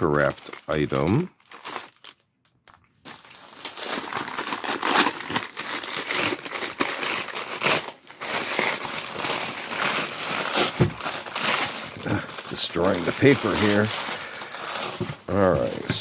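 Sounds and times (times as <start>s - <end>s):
packing paper crinkling and tearing: 0.0s - 16.0s.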